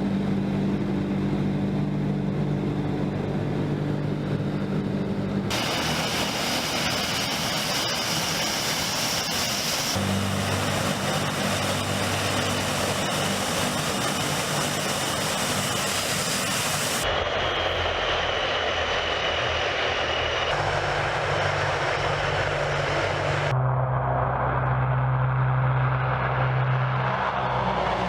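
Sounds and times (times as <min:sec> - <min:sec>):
propeller aircraft engines droning: 0:00.0 - 0:28.0.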